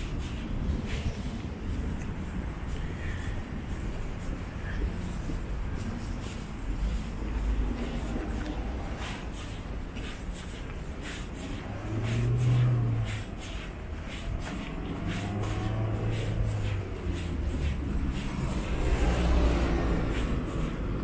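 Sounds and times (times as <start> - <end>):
footsteps on paved sidewalk: 0.0 - 21.0
road traffic: 0.0 - 21.0
vehicle engine humming past: 0.0 - 21.0.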